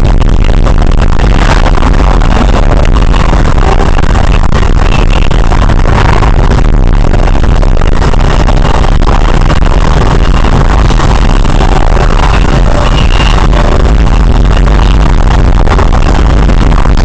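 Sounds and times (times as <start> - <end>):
loud electronic music: 0.0 - 17.0.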